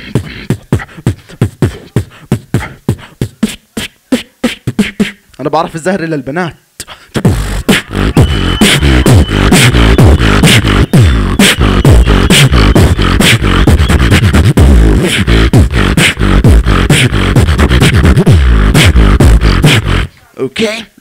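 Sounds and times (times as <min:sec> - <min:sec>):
amplified beatboxing: 0:00.0 - 0:05.4, 0:06.8 - 0:20.2.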